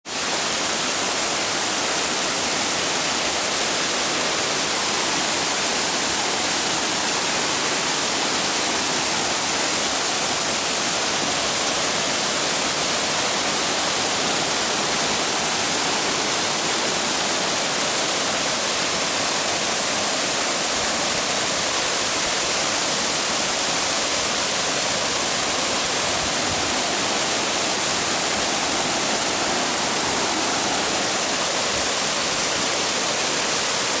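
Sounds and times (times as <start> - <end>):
waterfall splashing into pool: 0.1 - 34.0.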